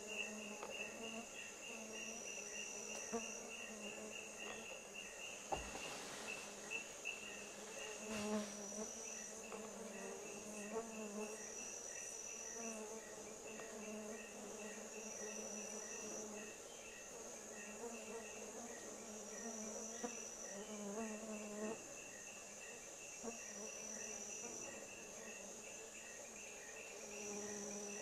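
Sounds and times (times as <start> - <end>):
faint lower insect calls: 0.0 - 28.0
insect drone: 0.0 - 28.0
pulsing insect chirp: 0.0 - 28.0.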